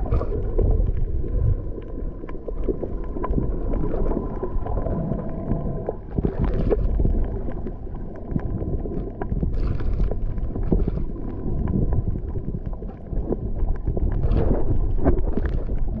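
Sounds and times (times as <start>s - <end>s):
low rumble of moving water: 0.0s - 16.0s
small underwater clicks and crackles: 0.0s - 16.0s.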